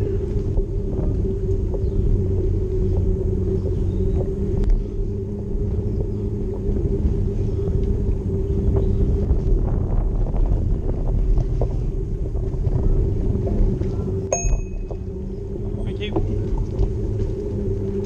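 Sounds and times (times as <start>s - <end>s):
vehicle rumble and hum: 0.0s - 18.0s.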